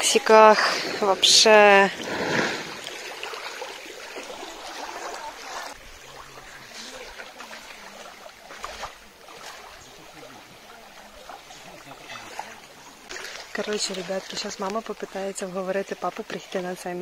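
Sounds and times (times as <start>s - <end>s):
small waves lapping: 0.0s - 17.0s.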